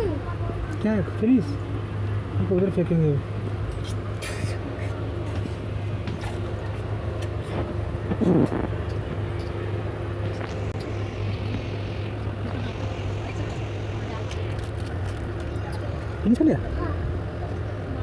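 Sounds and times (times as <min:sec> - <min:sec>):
train rumbling: 0:03.3 - 0:17.9.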